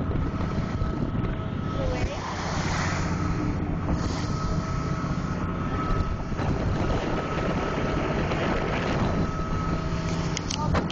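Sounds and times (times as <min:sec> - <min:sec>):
ferry engine drone: 0:00.0 - 0:10.9
thin steady whine: 0:00.0 - 0:10.9
water rushing along hull: 0:00.0 - 0:10.9.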